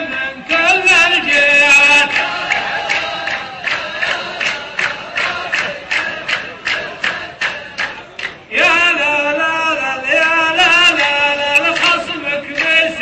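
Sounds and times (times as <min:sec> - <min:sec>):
sharp rhythmic beats: 0:00.0 - 0:08.9, 0:10.2 - 0:13.0.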